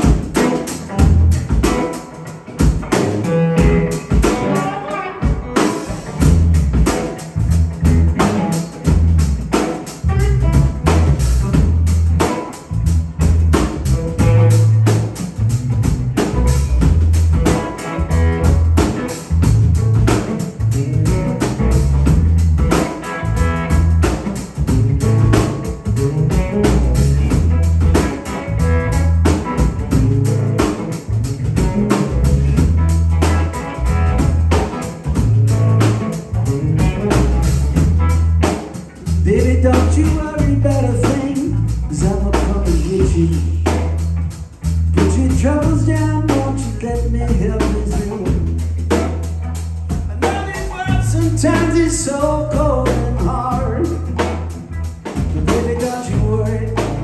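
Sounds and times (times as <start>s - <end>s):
drum kit: 0.0s - 57.0s
electric bass guitar: 0.0s - 57.0s
electric guitar: 0.0s - 57.0s.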